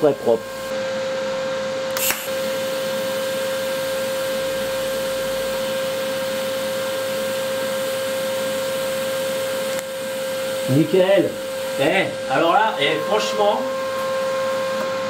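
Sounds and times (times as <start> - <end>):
welding arc hissing and humming: 1.9 - 14.9.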